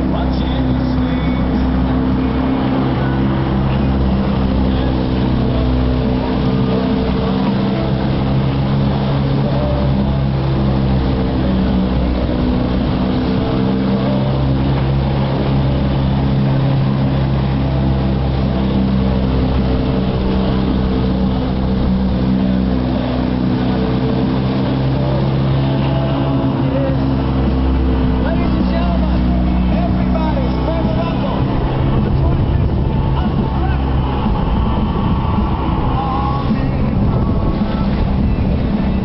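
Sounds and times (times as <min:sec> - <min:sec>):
outboard motor running steadily: 0:00.0 - 0:39.0.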